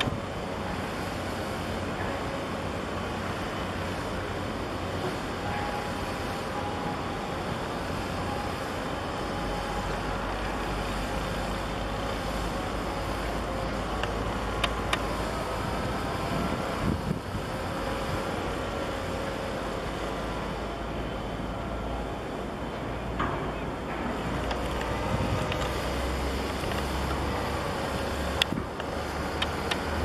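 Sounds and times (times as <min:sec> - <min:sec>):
low rumble of distant engines: 0:00.0 - 0:30.0.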